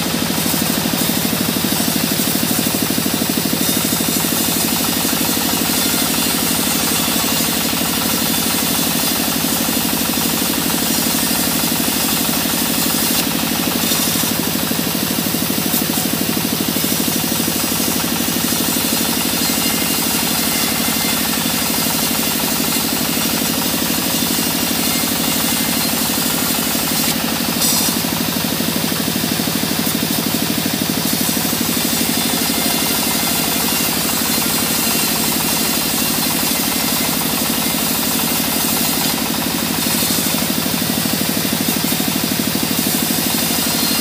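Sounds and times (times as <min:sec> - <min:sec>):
bandsaw droning: 0:00.0 - 0:44.0
saw blade cutting hiss: 0:00.0 - 0:44.0.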